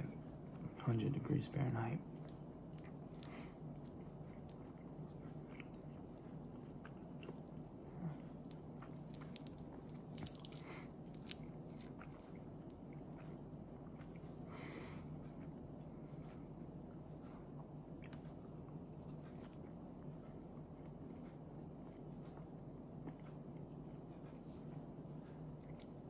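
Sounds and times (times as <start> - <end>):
quiet chewing: 2.0 - 26.0.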